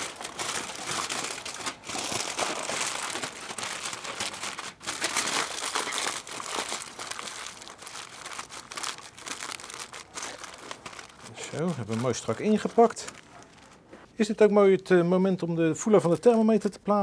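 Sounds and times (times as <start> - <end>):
aluminium foil crinkling: 0.0 - 13.8.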